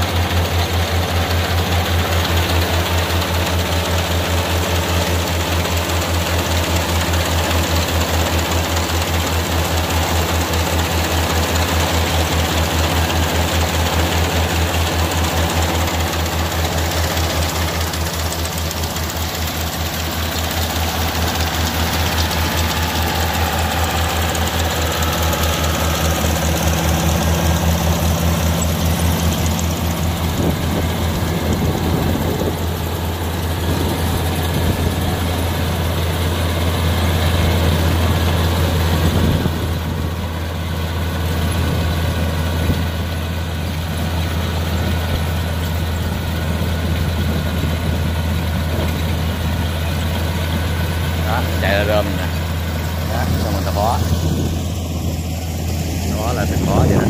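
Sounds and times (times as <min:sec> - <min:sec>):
combine harvester engine chugging: 0:00.0 - 0:57.0.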